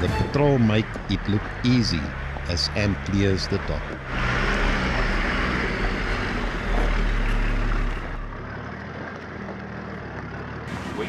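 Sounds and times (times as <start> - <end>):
car engine idling: 0.0 - 11.0
car engine revving under load: 0.0 - 11.0.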